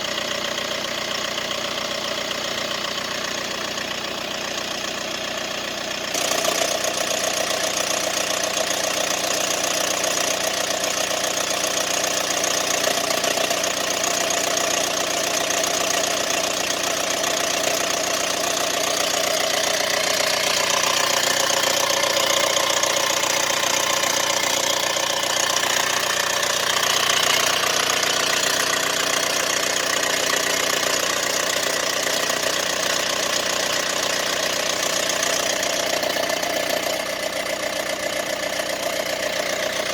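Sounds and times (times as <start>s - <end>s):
car engine running: 0.0s - 39.9s
engine rattling: 0.0s - 39.9s.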